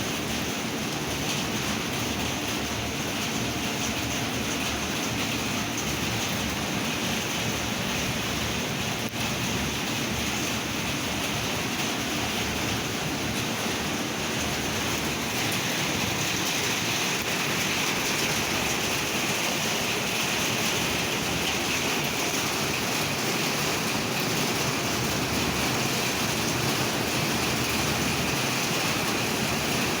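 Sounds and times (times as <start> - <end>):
heavy rain and wind: 0.0 - 30.0.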